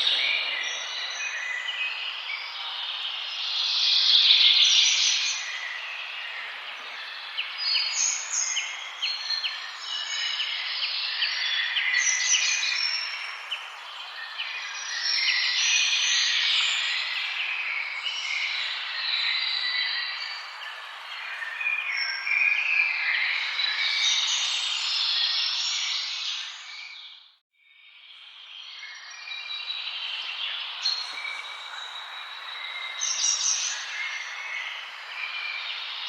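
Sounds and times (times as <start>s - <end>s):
birds singing and calling: 0.0s - 27.2s, 28.5s - 36.0s.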